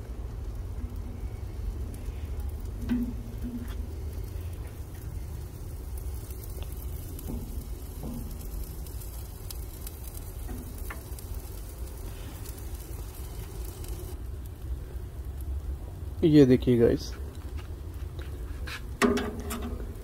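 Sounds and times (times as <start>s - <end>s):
food sizzling on charcoal grill: 0.0s - 20.0s.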